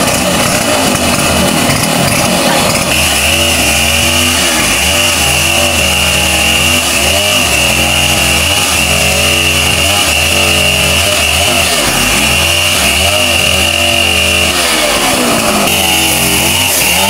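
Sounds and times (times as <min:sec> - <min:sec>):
chainsaw cutting a log: 0:00.0 - 0:17.0.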